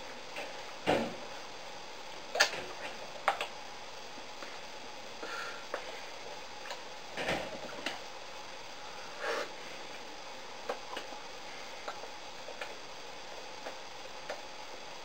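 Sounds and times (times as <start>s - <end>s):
room tone hiss: 0.0s - 15.0s.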